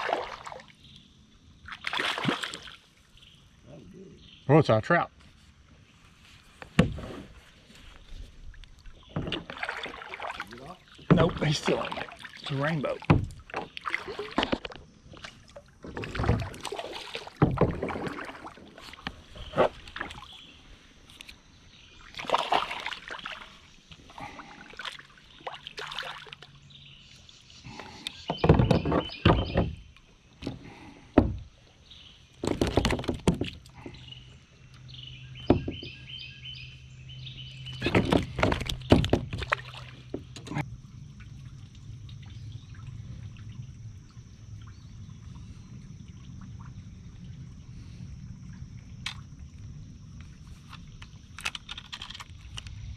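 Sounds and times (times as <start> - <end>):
paddle splashing in water: 0.0 - 3.4, 6.5 - 21.3, 21.9 - 52.2.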